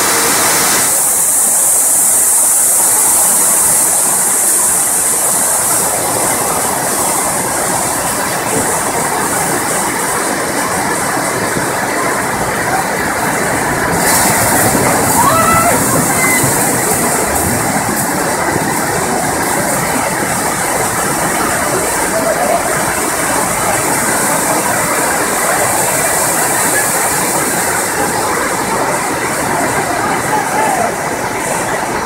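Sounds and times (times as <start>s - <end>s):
floodwater rushing: 0.0s - 32.0s
heavy rain: 0.0s - 32.0s.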